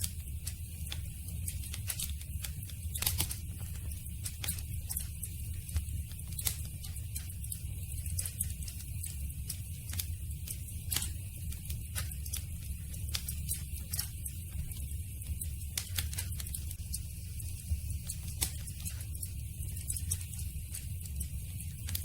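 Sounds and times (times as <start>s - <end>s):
campfire snaps and pops: 0.0s - 16.9s, 17.6s - 22.0s
low rumble of burning fire: 0.0s - 22.0s.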